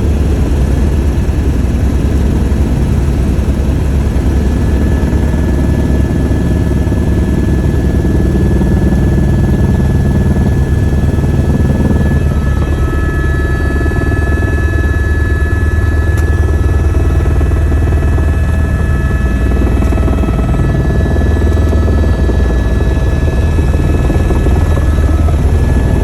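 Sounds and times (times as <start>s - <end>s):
helicopter rotor chop: 0.0s - 26.0s.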